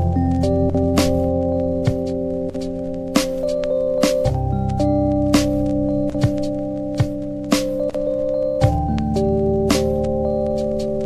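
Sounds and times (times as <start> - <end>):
sustained music chords: 0.0 - 11.0.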